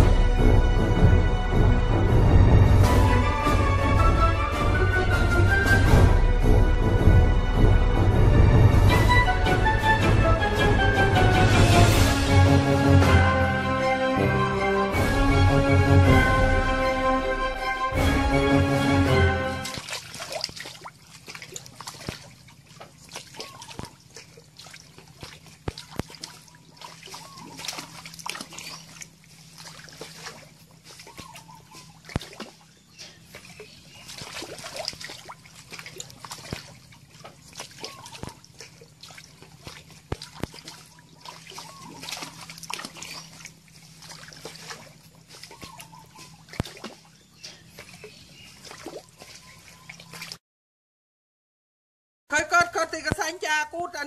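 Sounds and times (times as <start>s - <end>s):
water splashing and sloshing: 0.0s - 50.4s.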